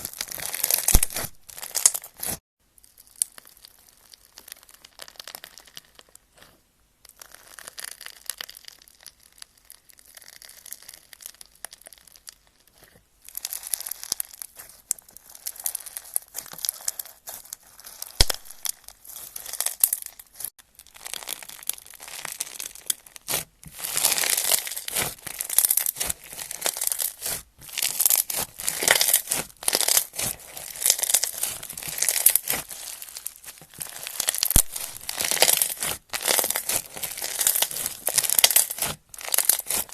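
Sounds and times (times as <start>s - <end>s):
slime crackling and squelching: 0.0s - 39.9s.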